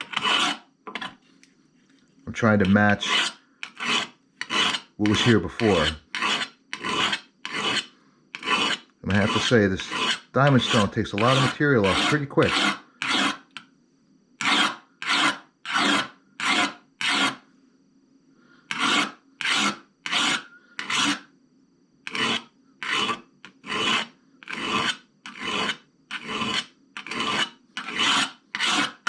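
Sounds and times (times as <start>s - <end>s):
hone rasping on steel blade: 0.0s - 1.2s, 2.5s - 13.6s, 14.4s - 17.4s, 18.7s - 21.3s, 22.1s - 29.0s.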